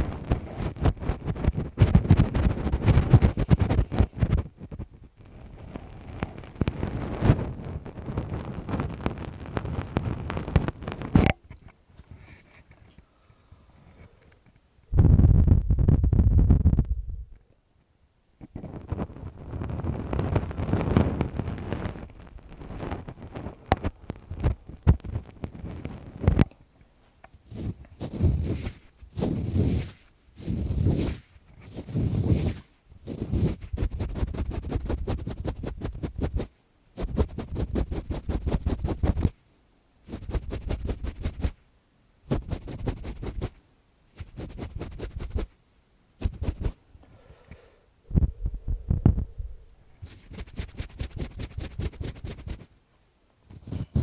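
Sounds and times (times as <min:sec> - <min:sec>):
gloved fingers rubbing microphone: 0:00.0 - 0:11.4, 0:15.0 - 0:17.3, 0:18.5 - 0:26.4, 0:27.4 - 0:39.4, 0:40.0 - 0:41.6, 0:42.3 - 0:45.6, 0:46.2 - 0:46.8, 0:48.1 - 0:52.8, 0:53.5 - 0:54.0.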